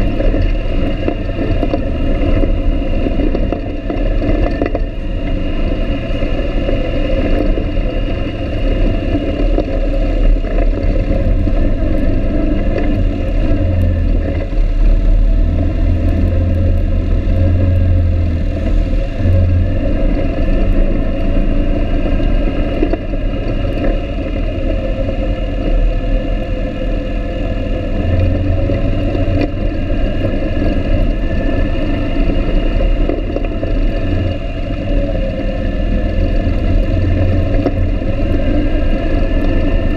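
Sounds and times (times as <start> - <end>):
atv engine rumbling: 0.0 - 39.9.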